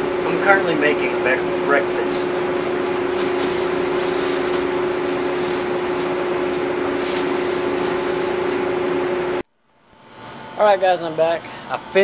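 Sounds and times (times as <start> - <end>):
fan noise: 0.0 - 12.0
refrigeration unit humming: 0.0 - 12.0.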